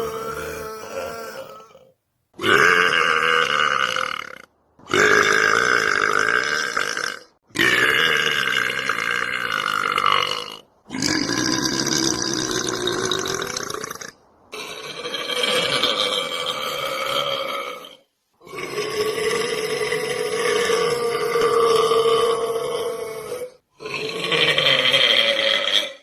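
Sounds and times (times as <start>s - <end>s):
man belching: 2.4s - 26.0s.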